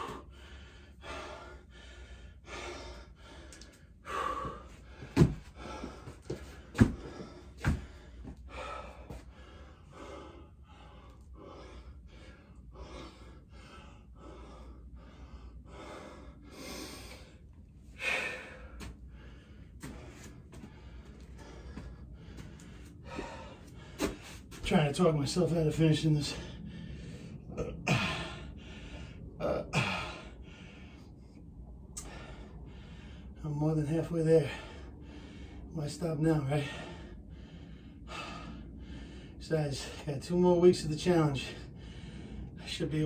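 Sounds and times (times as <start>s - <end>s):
man breathing hard and gasping: 0.0s - 40.3s, 41.0s - 43.0s.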